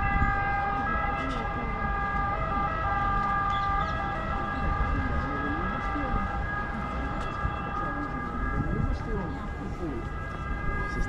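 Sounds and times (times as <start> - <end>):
distant siren: 0.0 - 11.0
faint voices: 0.0 - 11.0
wind rumbling on microphone: 0.0 - 11.0.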